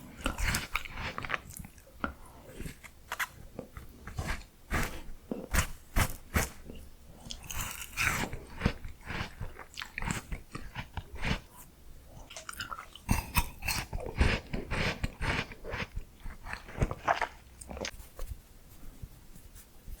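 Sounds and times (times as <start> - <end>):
crunchy bites and chewing: 0.0 - 11.6, 12.2 - 17.9.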